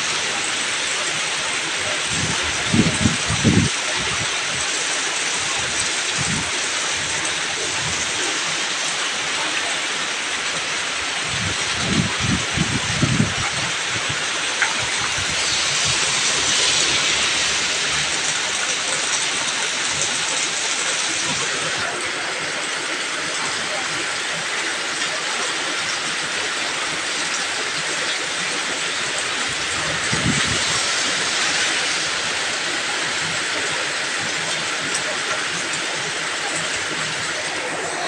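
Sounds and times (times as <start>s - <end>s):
heavy rain on road: 0.0s - 38.0s.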